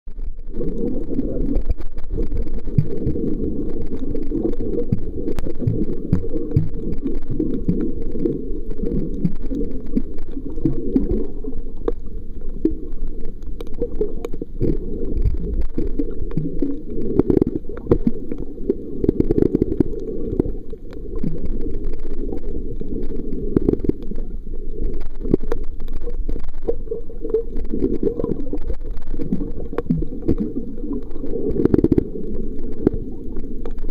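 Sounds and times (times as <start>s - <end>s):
muffled underwater rumbling and sloshing: 0.1s - 33.9s
small clicks and crackles: 0.1s - 33.9s.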